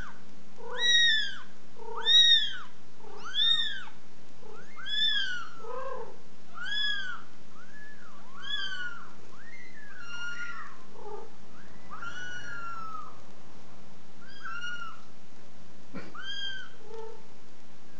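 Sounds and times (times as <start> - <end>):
kittens mewing: 0.0 - 13.2, 14.2 - 15.1, 15.9 - 17.2.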